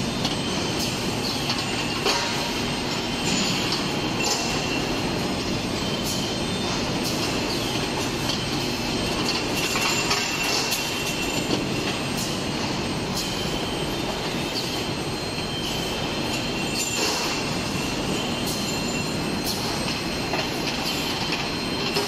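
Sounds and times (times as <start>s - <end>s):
machine noise with high whine: 0.0s - 22.0s.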